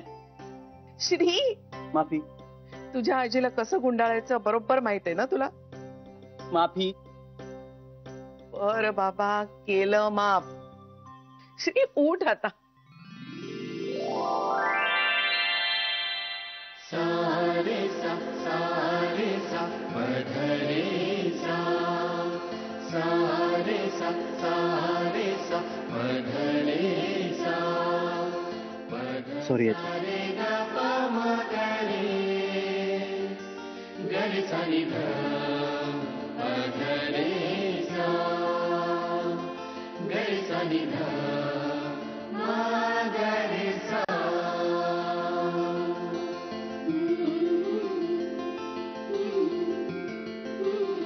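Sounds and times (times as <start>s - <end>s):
background music with singing: 0.0s - 11.7s, 12.3s - 51.0s.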